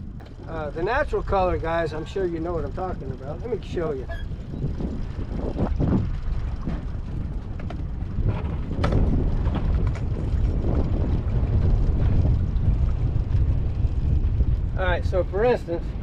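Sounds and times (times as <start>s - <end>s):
boat motor running: 0.0s - 16.0s
wind buffeting microphone: 0.0s - 16.0s.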